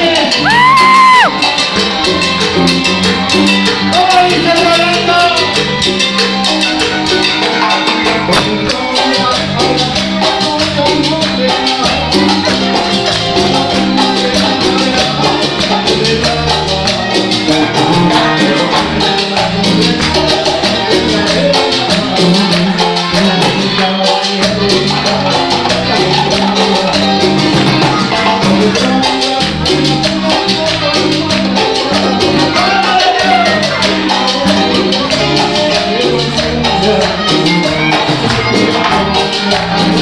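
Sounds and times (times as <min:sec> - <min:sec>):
accordion: 0:00.0 - 0:40.0
congas and timbales: 0:00.0 - 0:40.0
latin dance band playing: 0:00.0 - 0:40.0.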